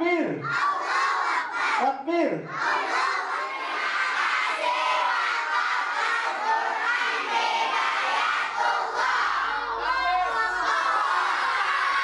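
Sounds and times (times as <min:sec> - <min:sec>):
children shouting and chanting: 0:00.4 - 0:12.0.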